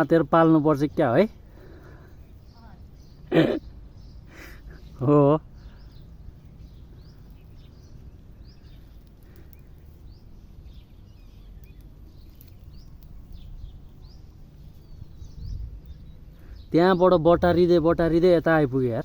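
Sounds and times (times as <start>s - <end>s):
low outdoor rumble: 0.0s - 19.0s
small birds chirping: 0.0s - 19.0s.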